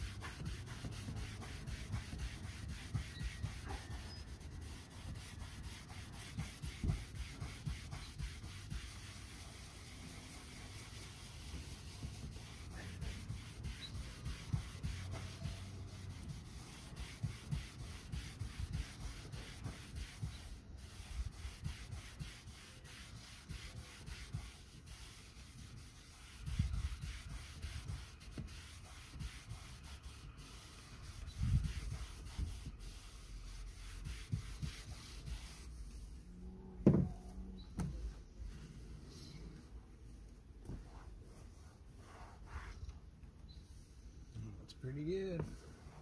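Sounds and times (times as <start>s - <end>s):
sponge scrubbing vinyl seat: 0.0s - 39.0s, 40.7s - 42.8s.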